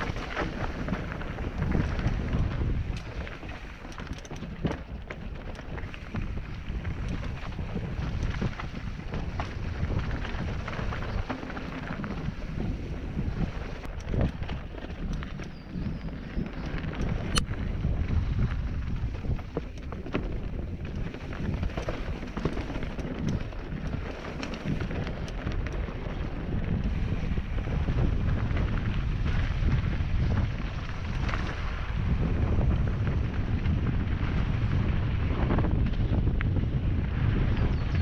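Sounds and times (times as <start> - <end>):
bike rattling over roots: 0.0 - 38.0
bike tyres on dirt: 0.0 - 38.0
wind on microphone: 0.0 - 38.0.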